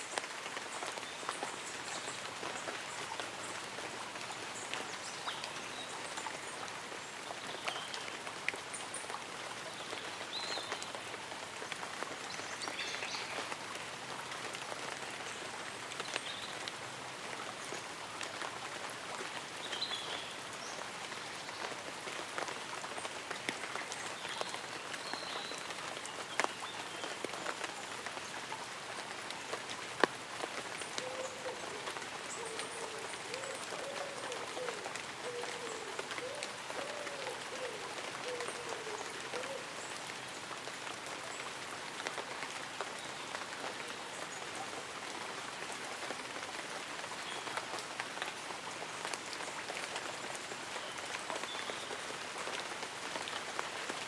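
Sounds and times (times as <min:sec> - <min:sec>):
light rain on leaves and umbrella: 0:00.0 - 0:54.0.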